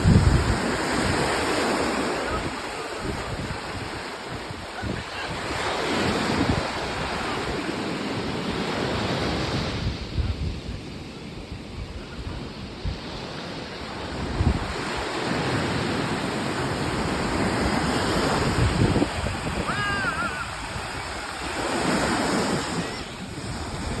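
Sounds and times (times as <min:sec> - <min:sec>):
sea waves washing onto beach: 0:00.0 - 0:24.0
wind buffeting microphone: 0:00.0 - 0:24.0.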